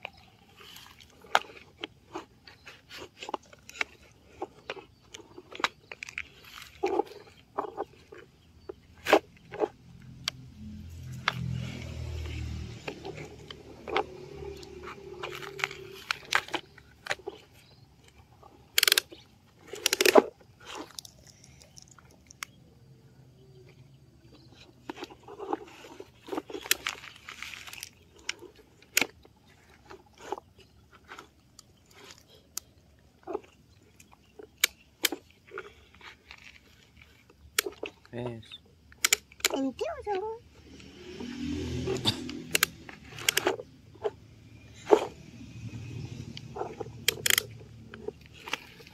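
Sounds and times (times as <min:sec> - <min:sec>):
toy excavator scraping gravel: 0:00.1 - 0:21.6, 0:24.3 - 0:38.6, 0:39.2 - 0:48.9.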